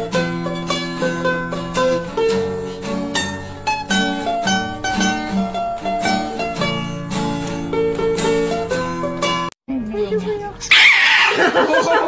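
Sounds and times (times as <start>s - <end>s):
plucked string melody: 0.0s - 10.5s.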